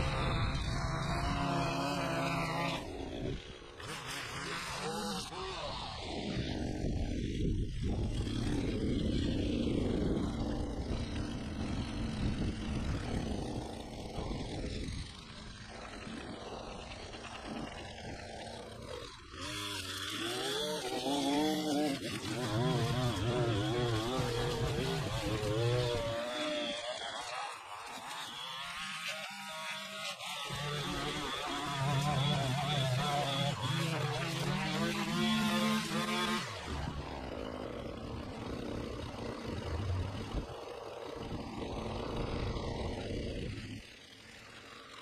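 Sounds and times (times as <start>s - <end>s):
string trimmer running: 0.0s - 45.0s
trimmer line cutting grass: 0.0s - 45.0s.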